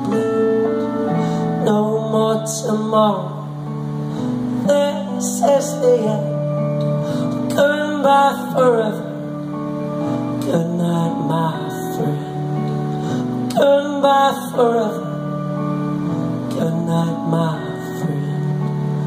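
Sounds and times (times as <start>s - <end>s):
electric guitar chords and melody: 0.0s - 19.0s.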